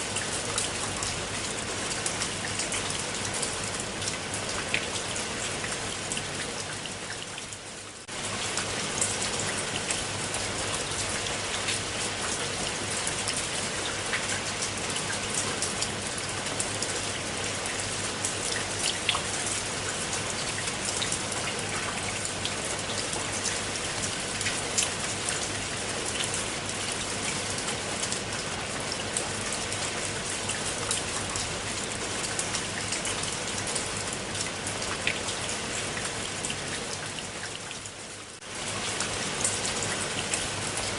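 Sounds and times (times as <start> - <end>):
rain falling on water: 0.0 - 40.9.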